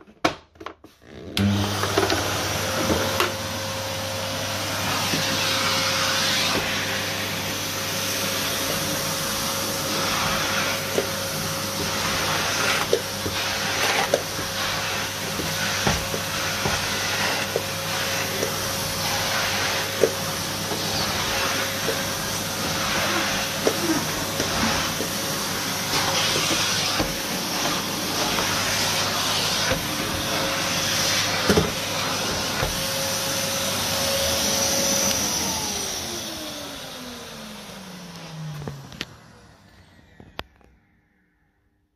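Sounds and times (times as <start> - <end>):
vacuum cleaner running: 0.9 - 41.5.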